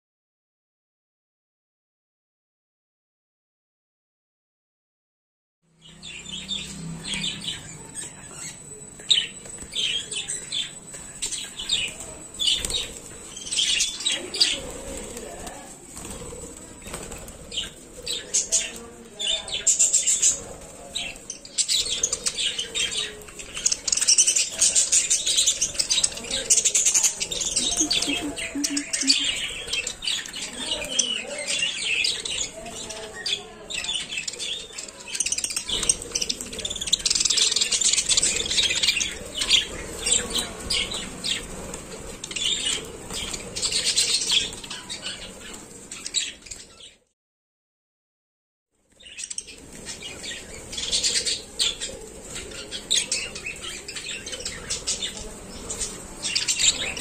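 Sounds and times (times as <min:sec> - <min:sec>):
budgerigars chirping and chattering: 0:05.8 - 0:47.0, 0:49.0 - 0:57.0.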